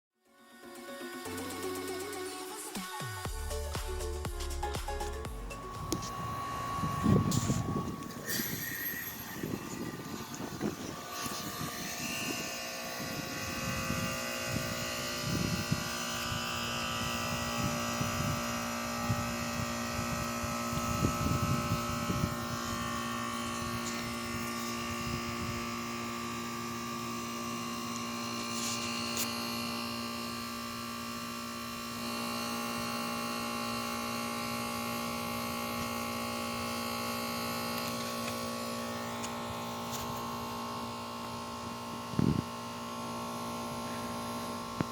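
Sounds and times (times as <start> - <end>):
heat pump humming: 1.3 - 44.9.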